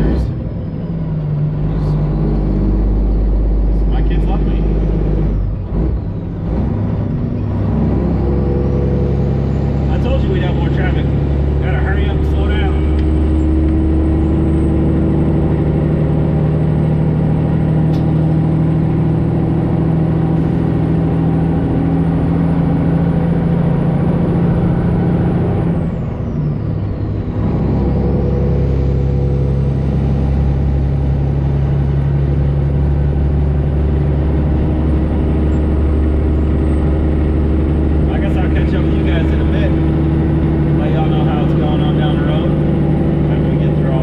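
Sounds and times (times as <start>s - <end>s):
truck diesel engine running: 0.0s - 44.0s.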